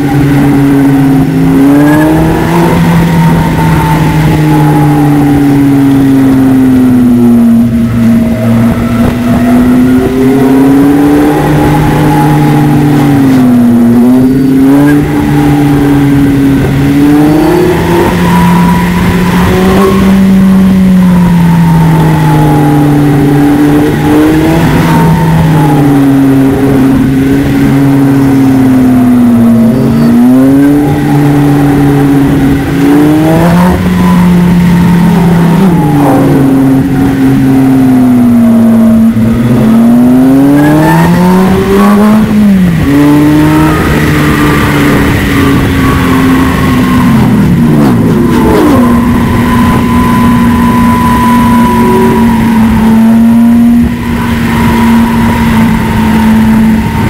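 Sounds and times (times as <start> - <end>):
engine revving under load: 0.0 - 57.0.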